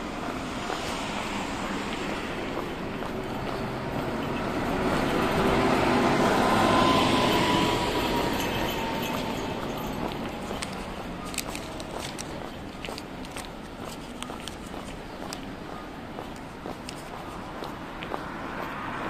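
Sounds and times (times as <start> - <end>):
bus driving past: 0.0 - 19.0
traffic noise: 0.0 - 19.0.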